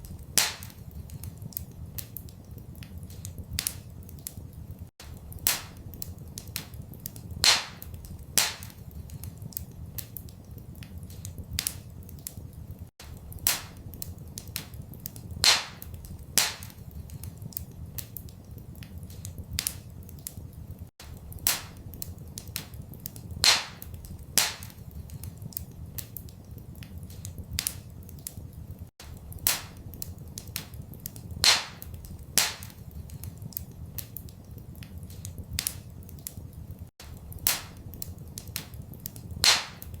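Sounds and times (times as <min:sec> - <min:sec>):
fire pops and snaps: 0:00.0 - 0:40.0
wood fire crackling: 0:00.0 - 0:40.0.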